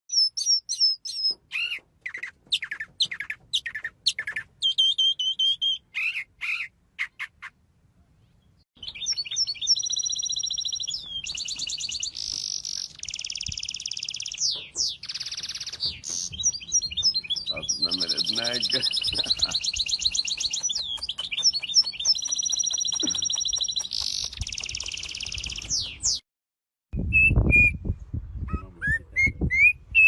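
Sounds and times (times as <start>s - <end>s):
songbird chirping and singing: 0.1s - 7.5s, 8.2s - 26.2s.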